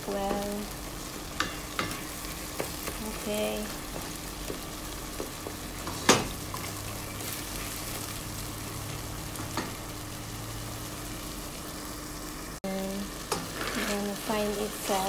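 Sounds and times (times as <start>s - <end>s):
vegetables sizzling in pot: 0.0s - 15.0s.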